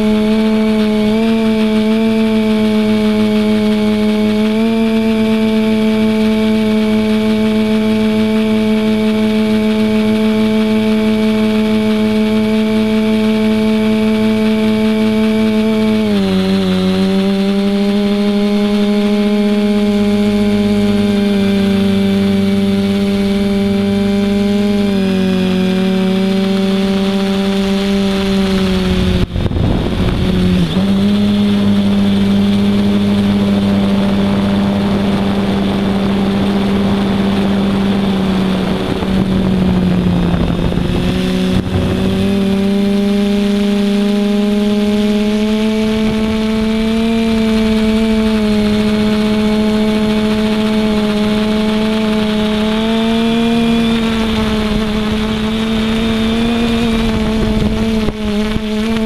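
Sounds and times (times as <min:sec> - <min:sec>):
drone propellers humming: 0:00.0 - 0:59.0
wind on microphone: 0:00.0 - 0:59.0.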